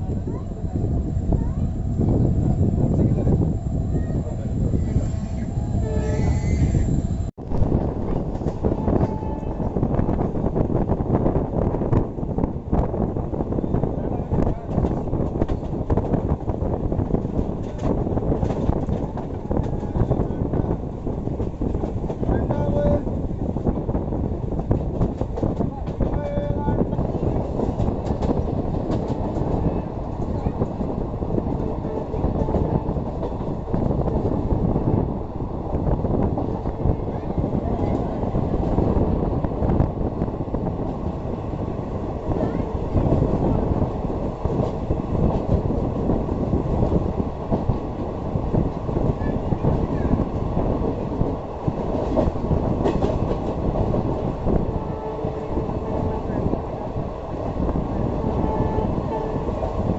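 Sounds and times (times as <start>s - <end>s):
train rail noise: 0.0s - 59.9s.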